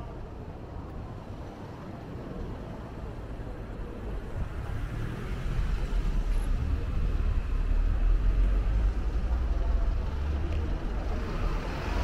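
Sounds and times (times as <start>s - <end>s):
background street noise: 0.0s - 12.0s.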